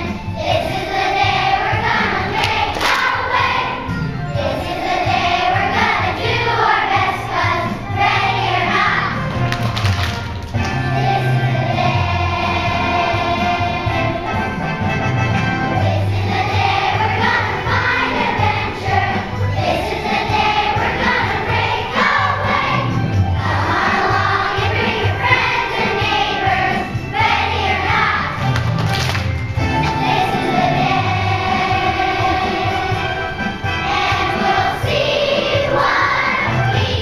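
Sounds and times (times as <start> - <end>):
children's choir singing: 0.0 - 9.5, 10.5 - 28.6, 29.5 - 37.0
music with bass line: 5.1 - 37.0.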